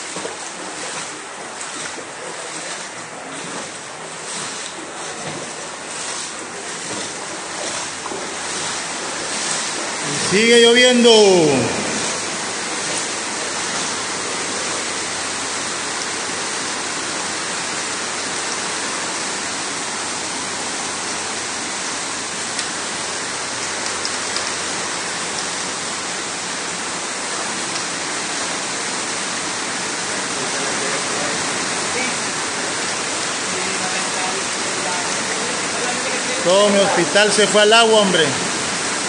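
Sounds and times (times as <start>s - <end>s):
heavy rain on pavement: 0.0s - 39.0s.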